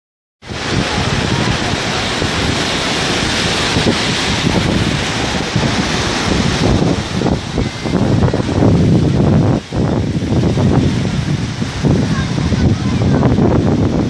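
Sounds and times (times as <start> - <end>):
surf breaking on shore: 0.4 - 14.0
wind buffeting microphone: 0.4 - 14.0.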